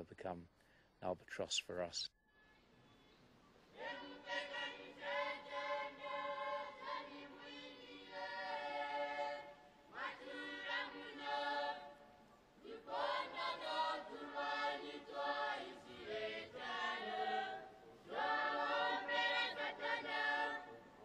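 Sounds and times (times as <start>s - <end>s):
group singing a hymn: 3.7s - 21.0s.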